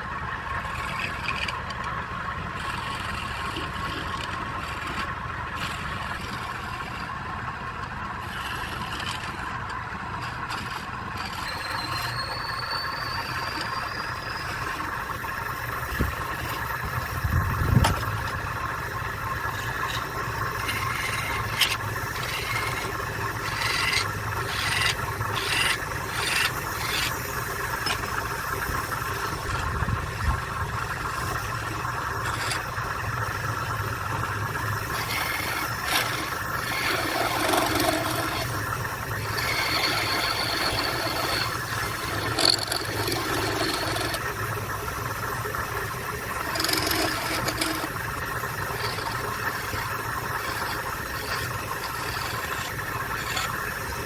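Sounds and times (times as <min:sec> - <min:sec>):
tool scraping spinning wood: 0:00.0 - 0:54.0
wood lathe humming: 0:00.0 - 0:54.0.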